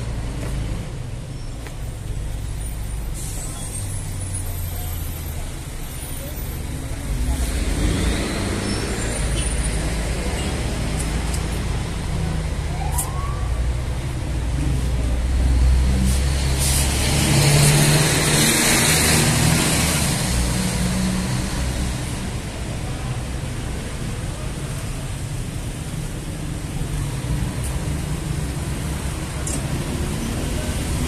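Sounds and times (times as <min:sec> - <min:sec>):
heavy vehicle engines rumbling: 0:00.0 - 0:31.0.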